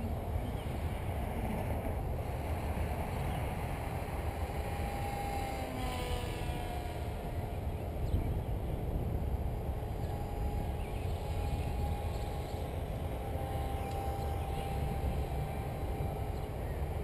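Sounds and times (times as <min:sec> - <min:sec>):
small plane motor whine: 0:00.0 - 0:17.0
wind rumbling on microphone: 0:00.0 - 0:17.0.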